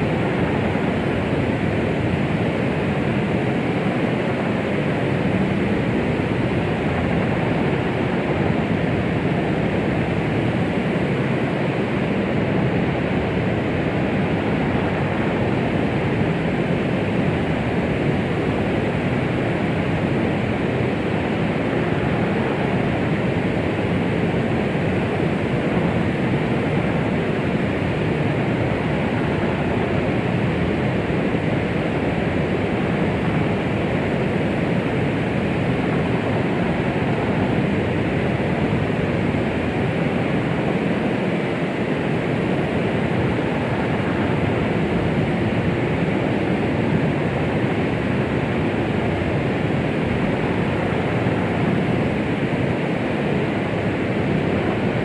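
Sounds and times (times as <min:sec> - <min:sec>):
low muffled white noise: 0:00.0 - 0:55.0.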